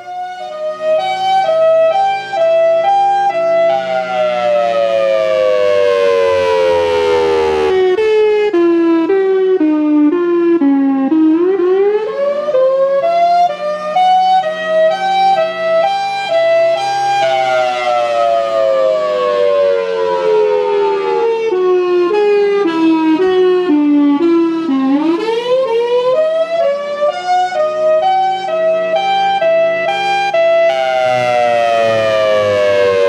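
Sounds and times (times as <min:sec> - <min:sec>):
warning siren wailing: 0:00.0 - 0:33.0.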